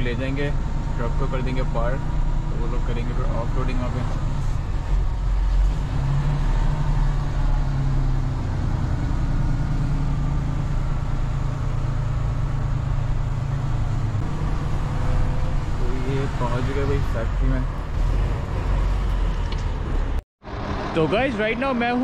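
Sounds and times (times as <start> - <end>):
diesel truck engine droning: 0.0 - 22.0.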